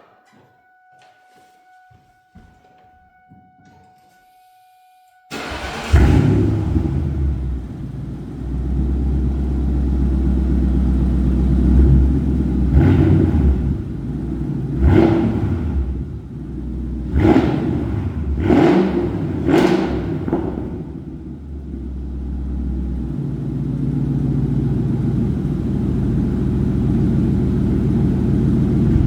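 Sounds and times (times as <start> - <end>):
car engine idling and revving: 5.3 - 29.0.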